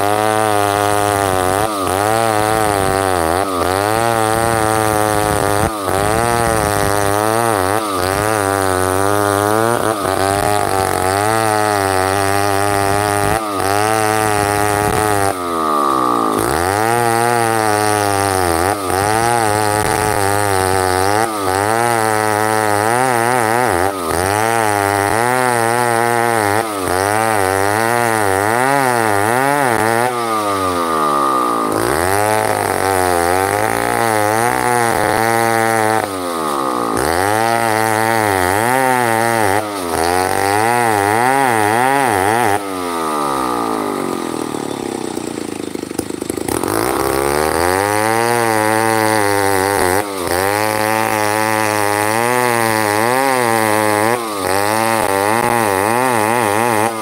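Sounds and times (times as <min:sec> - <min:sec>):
chainsaw ripping wood: 0:00.0 - 0:57.0.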